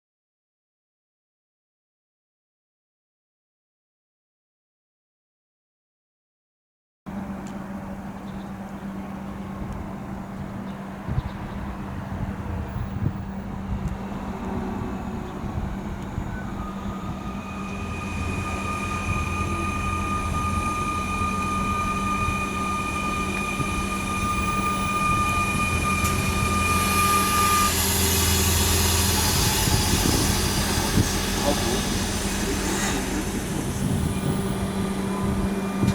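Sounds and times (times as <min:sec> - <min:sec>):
electric train approaching: 0:07.1 - 0:35.9
high-pitched whine: 0:07.1 - 0:35.9.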